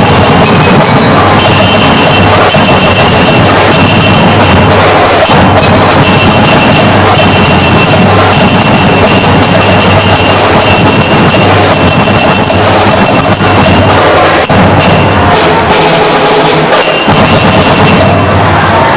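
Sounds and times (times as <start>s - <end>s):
high ringing tones: 0.0s - 15.8s, 16.7s - 18.4s
percussion band drumming: 0.0s - 18.9s
sharp clacking hits: 0.0s - 18.9s.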